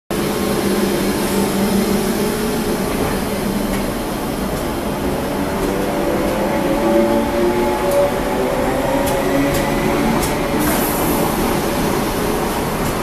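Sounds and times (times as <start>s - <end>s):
electric train humming and rumbling: 0.1s - 13.0s.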